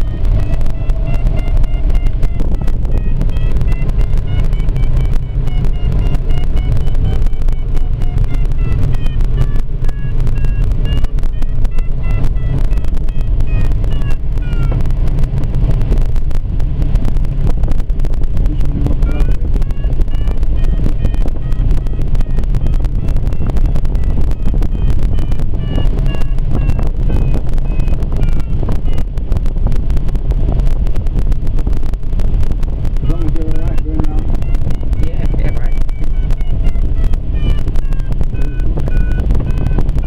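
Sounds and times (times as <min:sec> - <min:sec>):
rush of air in cockpit: 0:00.0 - 0:40.0
variometer beeping rising and falling: 0:00.0 - 0:40.0.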